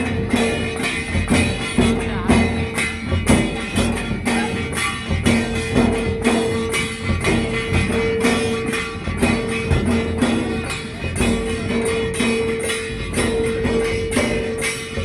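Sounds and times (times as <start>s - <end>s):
dhol drums beating: 0.0s - 15.0s
jingling metal percussion: 0.0s - 15.0s.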